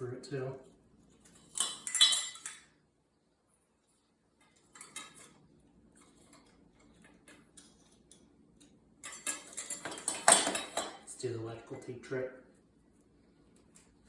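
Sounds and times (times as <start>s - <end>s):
fan parts clicking and rattling: 0.6s - 2.8s, 4.3s - 14.0s.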